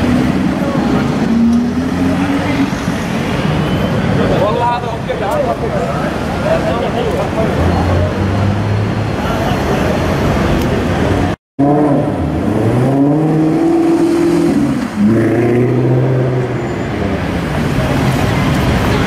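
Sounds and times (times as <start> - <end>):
street noise: 0.0 - 19.0.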